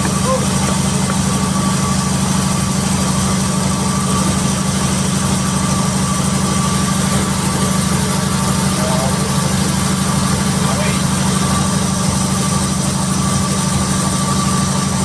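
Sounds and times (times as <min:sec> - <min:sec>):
sawmill engine droning: 0:00.0 - 0:15.0.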